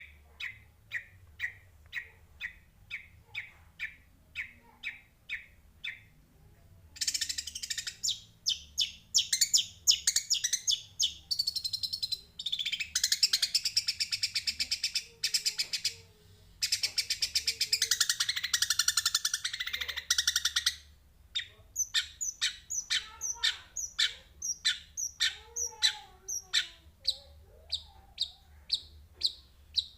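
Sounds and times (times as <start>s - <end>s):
sparrow chirping: 0.0s - 6.1s, 7.0s - 29.9s.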